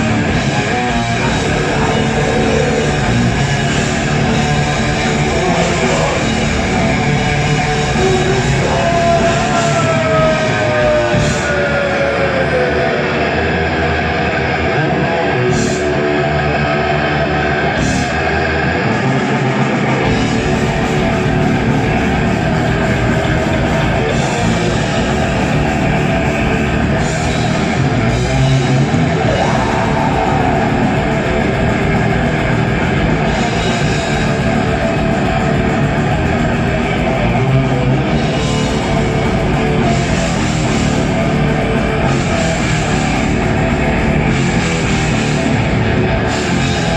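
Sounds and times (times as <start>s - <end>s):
drum kit: 0.0s - 12.3s, 15.4s - 46.9s
bass guitar: 0.0s - 46.9s
distorted electric guitars: 0.0s - 46.9s.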